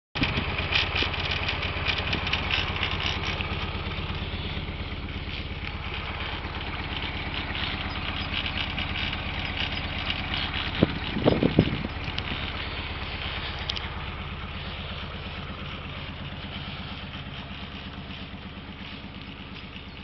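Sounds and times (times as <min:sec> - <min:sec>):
boat engine idling: 0:00.2 - 0:20.0.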